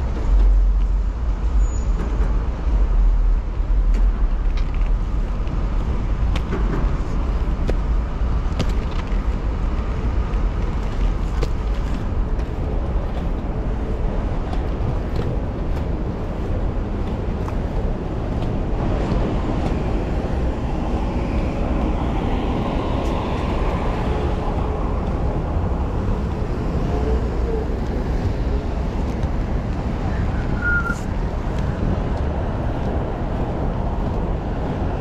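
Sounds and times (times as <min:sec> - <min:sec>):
bus passing: 0:00.0 - 0:35.0
city traffic: 0:00.0 - 0:35.0
wind rumbling on microphone: 0:00.0 - 0:35.0
skate wheels rolling on pavement: 0:03.5 - 0:27.0, 0:27.6 - 0:35.0.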